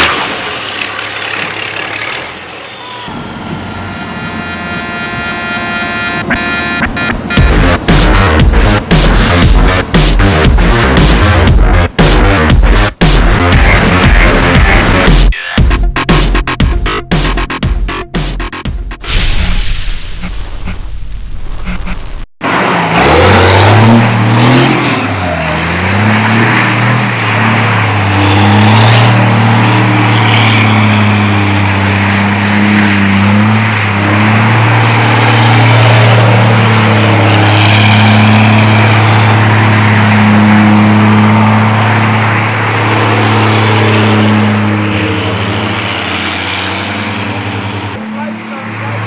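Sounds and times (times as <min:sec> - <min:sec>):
truck engine running: 0:00.0 - 0:19.0, 0:20.2 - 0:49.0.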